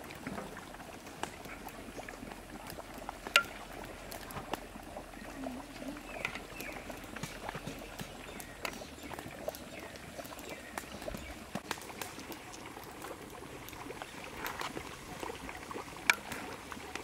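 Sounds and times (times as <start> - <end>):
small clicks and crackles: 0.0 - 17.0.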